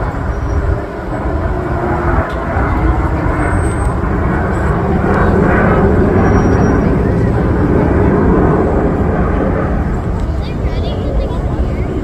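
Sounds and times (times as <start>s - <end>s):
aircraft engine rumble: 0.0s - 12.0s.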